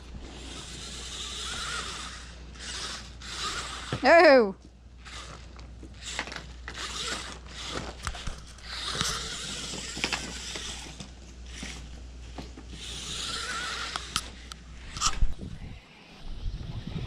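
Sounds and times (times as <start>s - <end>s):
toy car electric motor whirring: 0.0s - 4.4s, 5.0s - 15.4s.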